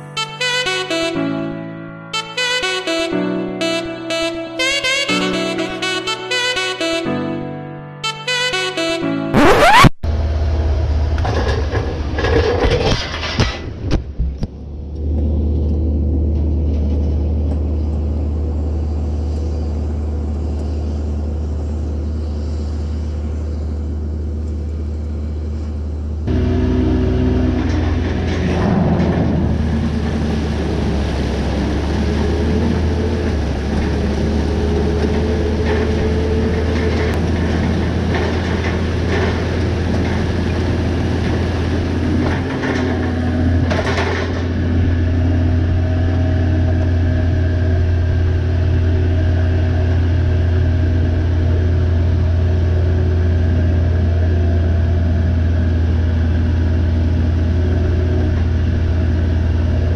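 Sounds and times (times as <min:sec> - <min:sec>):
low machine rumble: 0:10.0 - 0:59.9.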